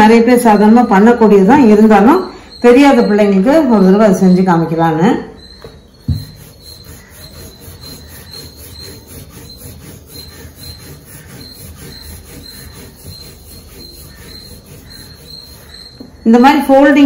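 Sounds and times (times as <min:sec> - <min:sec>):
rolling pin rolling dough: 0:00.0 - 0:04.8, 0:05.4 - 0:17.0.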